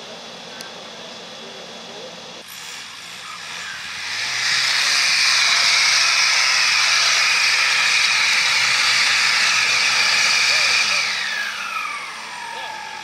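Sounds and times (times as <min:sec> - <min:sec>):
engine running low: 0:00.0 - 0:13.0
loud steam hiss: 0:02.4 - 0:13.0.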